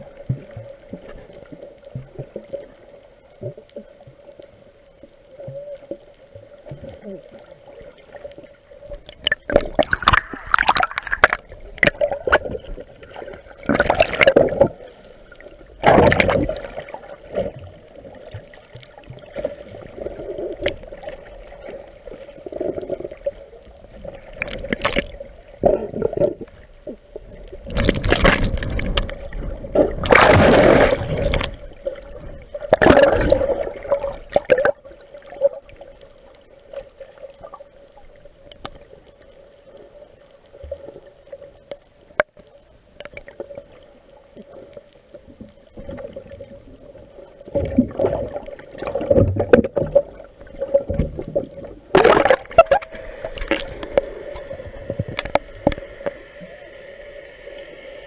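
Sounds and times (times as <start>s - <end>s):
water sloshing and gurgling: 5.5s - 39.3s, 40.2s - 58.0s.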